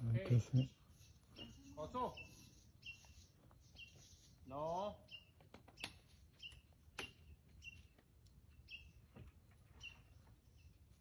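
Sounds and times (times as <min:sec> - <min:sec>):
faint bird chirping: 0:00.1 - 0:11.0.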